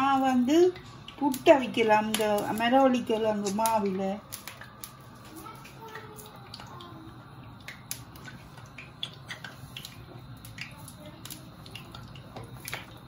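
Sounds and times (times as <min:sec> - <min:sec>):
sticky squishes of dough: 0:00.0 - 0:13.0.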